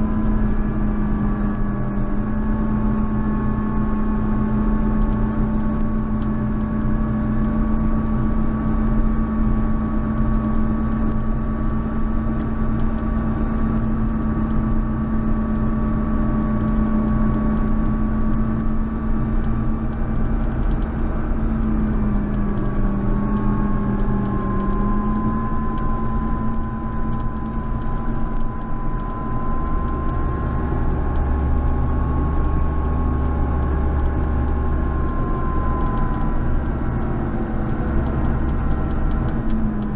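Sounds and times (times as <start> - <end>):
deep rumble: 0.0 - 39.9
tractor diesel engine under load: 0.0 - 39.9.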